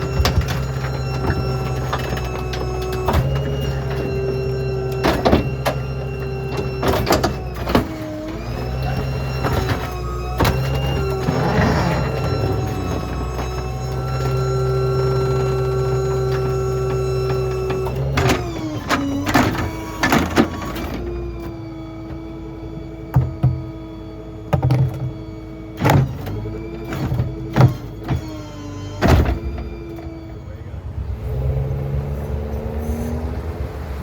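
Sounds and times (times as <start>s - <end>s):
clunks and bangs: 0.0s - 30.6s
hydraulic packer whine: 0.0s - 34.0s.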